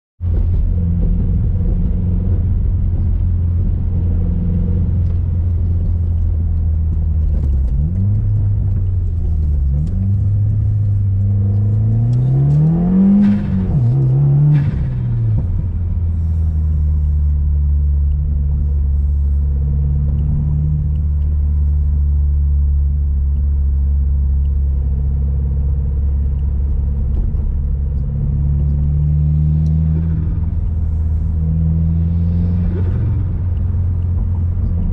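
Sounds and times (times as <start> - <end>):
car engine revving while driving: 0.3 - 34.9.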